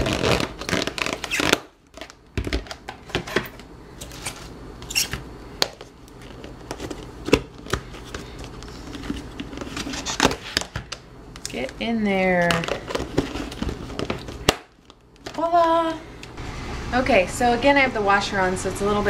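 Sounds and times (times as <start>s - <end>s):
washing machine humming: 1.8s - 19.0s.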